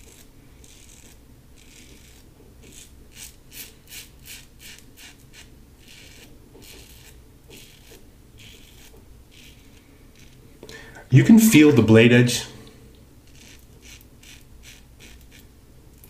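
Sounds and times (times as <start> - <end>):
razor rasping through stubble: 0.0 - 10.4, 13.2 - 16.0.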